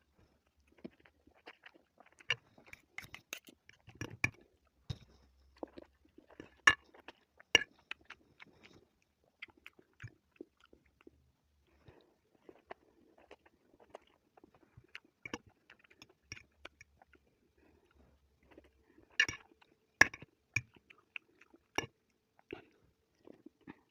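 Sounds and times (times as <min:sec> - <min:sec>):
person chewing noodles: 0:00.0 - 0:23.9.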